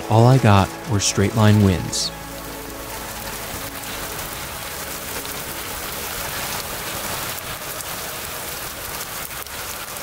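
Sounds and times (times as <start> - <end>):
heavy rain pelting a car: 0.0 - 10.0.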